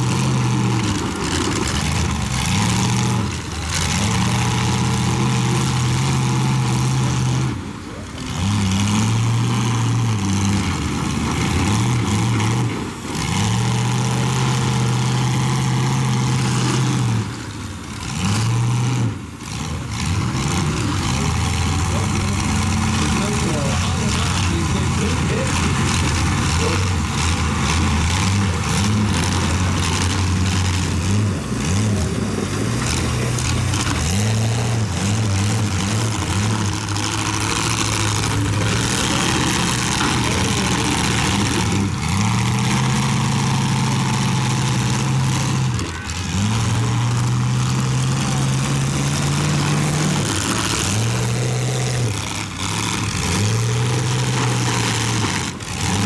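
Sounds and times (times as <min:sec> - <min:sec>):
car engines revving hard: 0:00.0 - 0:56.0
dense noisy din: 0:00.0 - 0:56.0.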